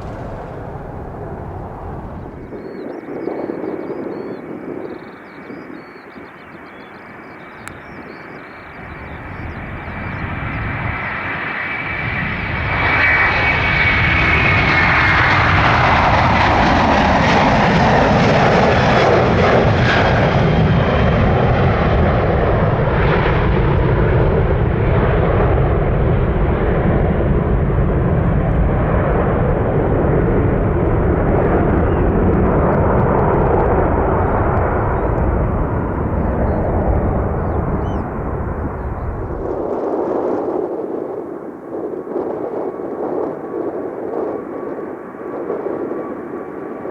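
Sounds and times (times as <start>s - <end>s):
jet engine roar: 0.0s - 4.6s, 8.3s - 46.9s
jet engine whine: 0.0s - 46.9s.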